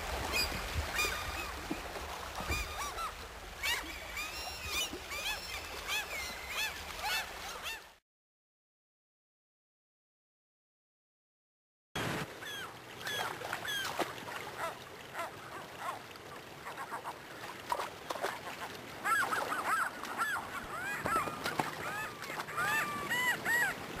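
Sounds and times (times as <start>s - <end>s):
gulls calling: 0.2s - 8.0s, 12.2s - 24.0s.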